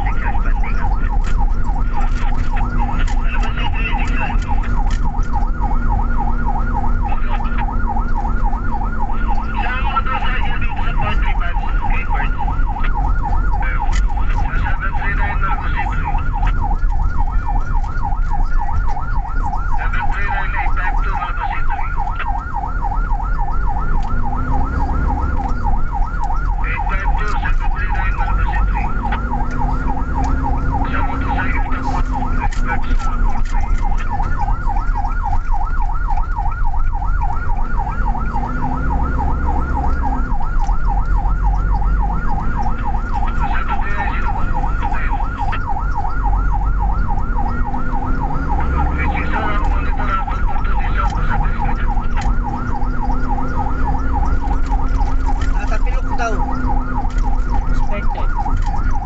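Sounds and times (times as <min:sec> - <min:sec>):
ambulance siren yelping: 0:00.0 - 0:59.0
engine and road rumble: 0:00.0 - 0:59.0.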